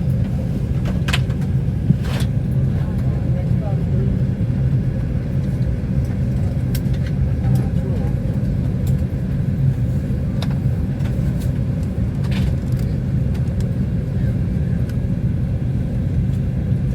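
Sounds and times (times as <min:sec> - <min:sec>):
low machinery rumble: 0:00.0 - 0:16.9.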